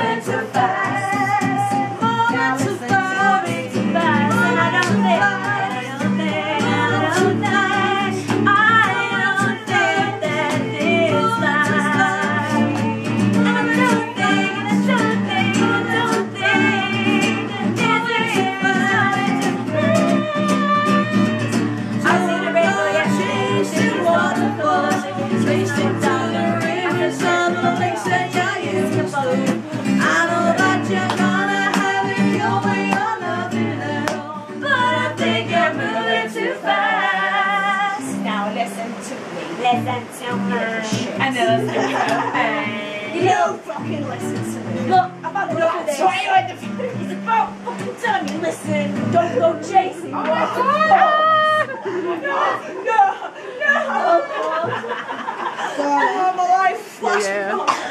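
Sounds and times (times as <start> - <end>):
acoustic guitar strumming: 0.0 - 52.6
woman singing: 0.0 - 55.0, 55.7 - 57.9.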